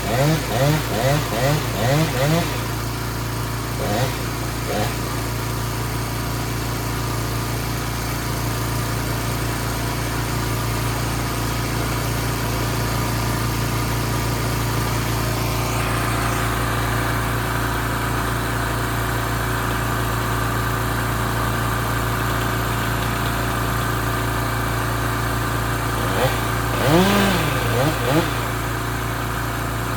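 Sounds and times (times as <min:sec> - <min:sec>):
truck engine low hum: 0:00.0 - 0:29.9.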